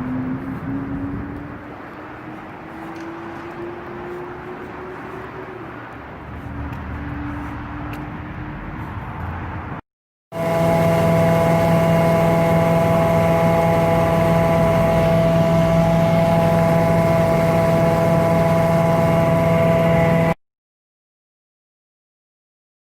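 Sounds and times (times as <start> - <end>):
engine humming steadily: 0.0 - 20.4.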